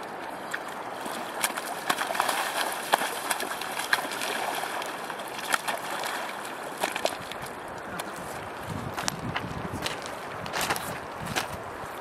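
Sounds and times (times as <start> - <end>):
feet splashing in shallow water: 0.0 - 12.0
river running: 0.0 - 12.0.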